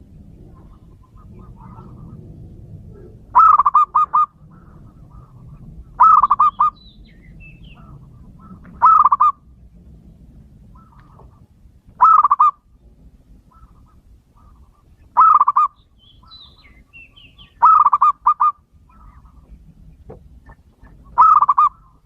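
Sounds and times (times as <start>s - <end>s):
dove cooing: 0.0s - 9.5s, 10.6s - 12.7s, 13.4s - 22.0s.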